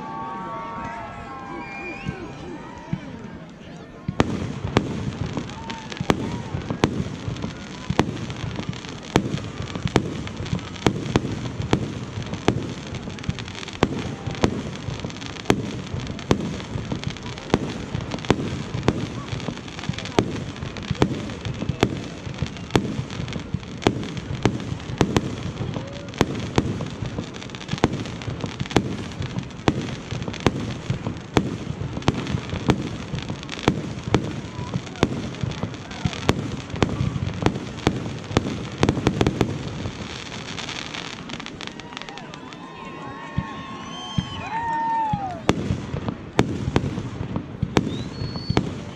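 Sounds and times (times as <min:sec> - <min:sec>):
fireworks bangs: 0:00.0 - 0:48.9.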